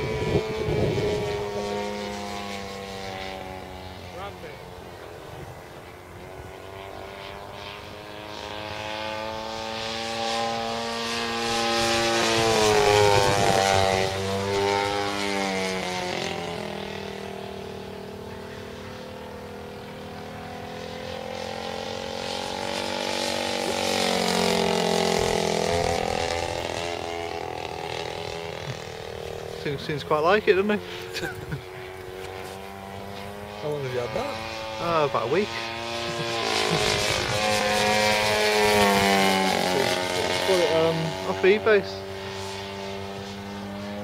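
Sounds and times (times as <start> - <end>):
model plane engine droning: 0.0 - 44.0.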